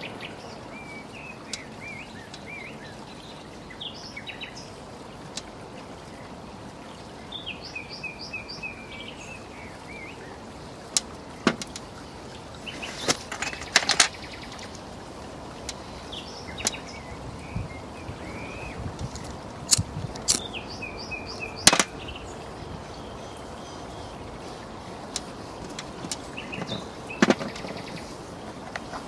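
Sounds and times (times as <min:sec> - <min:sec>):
outdoor background hiss: 0:00.0 - 0:29.0
songbirds chirping: 0:00.0 - 0:29.0.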